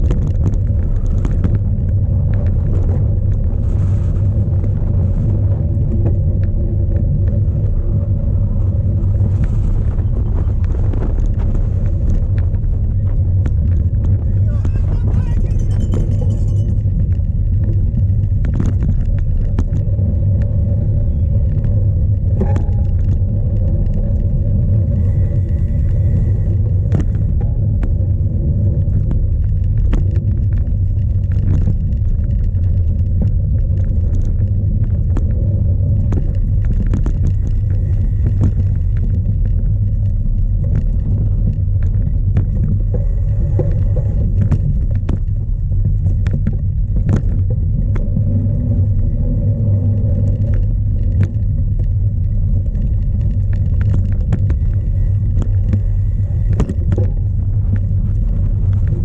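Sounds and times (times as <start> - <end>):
wind buffeting microphone: 0.0 - 59.0
bike knocks and rattles: 8.6 - 59.0.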